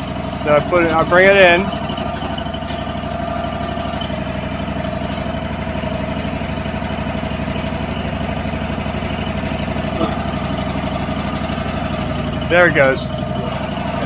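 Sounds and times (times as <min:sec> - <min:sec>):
sawmill gasoline engine running: 0:00.0 - 0:14.0.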